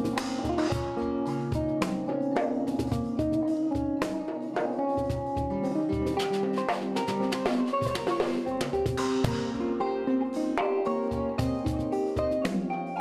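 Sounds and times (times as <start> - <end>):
bass drum beat: 0.0 - 9.8, 11.1 - 12.5
plucked zither melody: 0.0 - 13.0
stick hits on snare and cymbal: 0.0 - 13.0.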